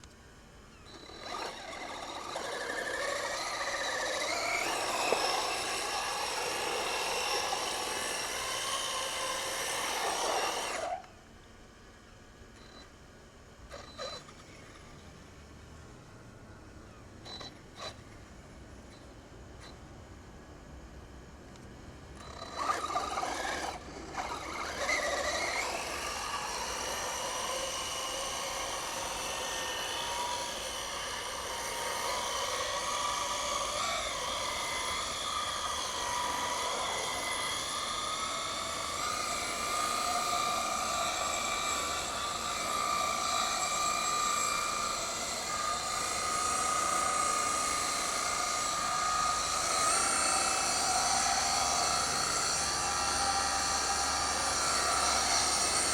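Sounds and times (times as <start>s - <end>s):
high whine of toy truck motor: 0.0s - 12.9s, 13.6s - 55.9s.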